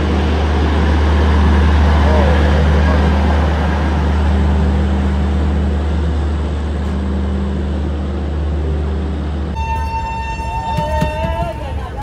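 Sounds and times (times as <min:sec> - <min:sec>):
moving train drone: 0:00.0 - 0:12.0.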